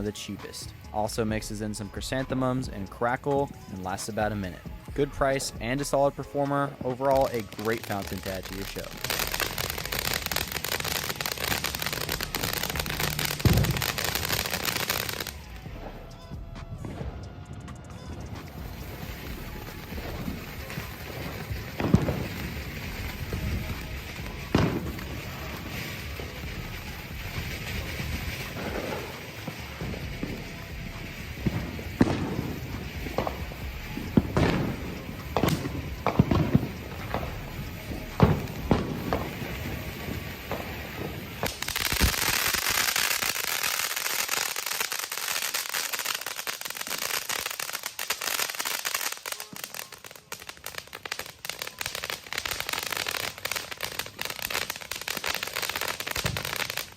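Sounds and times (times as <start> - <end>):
fireworks fountain crackling: 0.0 - 56.9.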